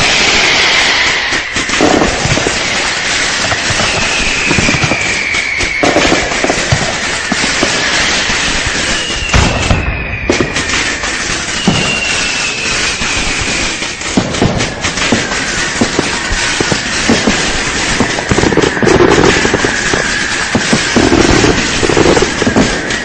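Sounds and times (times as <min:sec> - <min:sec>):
falling firework whistles: 0:00.0 - 0:23.0
fireworks bangs and crackles: 0:00.0 - 0:23.0.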